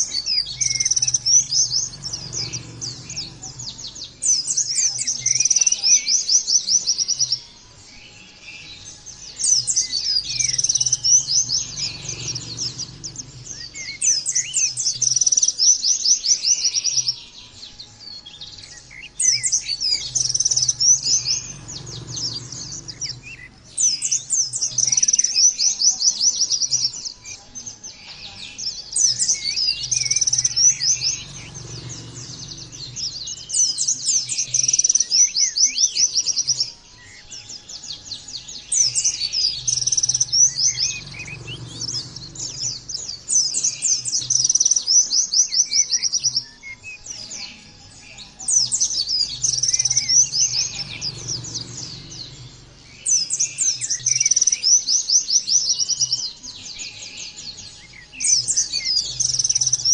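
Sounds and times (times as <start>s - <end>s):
bird singing chattering phrases: 0.0s - 59.9s.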